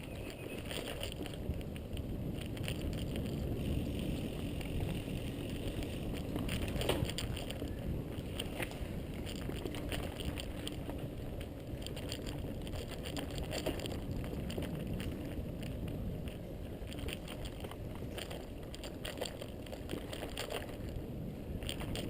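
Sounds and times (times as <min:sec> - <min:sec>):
bike clicks and rattles: 0:00.0 - 0:22.0
tyres rumbling on dirt: 0:00.0 - 0:22.0
wind on microphone: 0:00.0 - 0:22.0.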